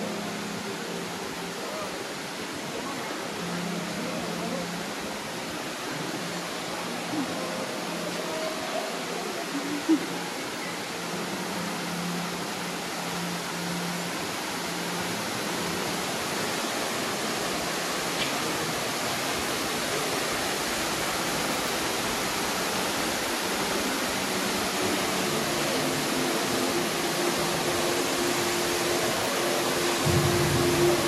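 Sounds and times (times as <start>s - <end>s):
waterfall roaring in a cave: 0.0s - 31.0s.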